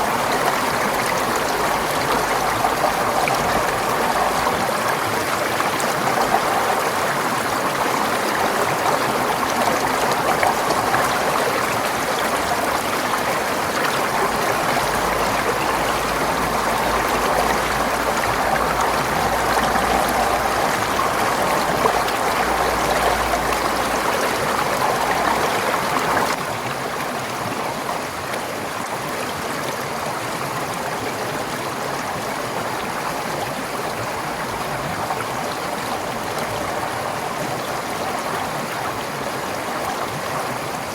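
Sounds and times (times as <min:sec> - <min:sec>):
stream rushing and gurgling: 0:00.0 - 0:40.9.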